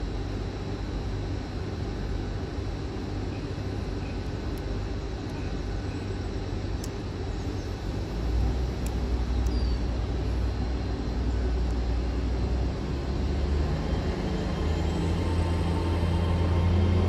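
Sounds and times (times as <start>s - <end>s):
train diesel engine drone: 0.0s - 17.0s.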